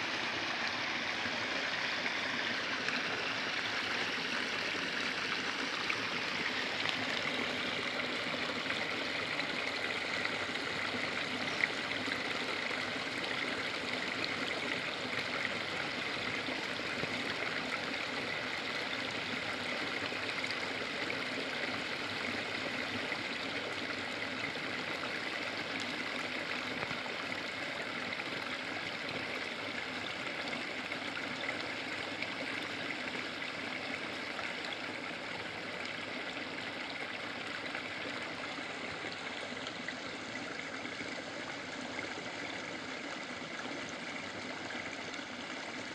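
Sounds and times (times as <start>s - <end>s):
brook splashing over stones: 0.0s - 45.9s.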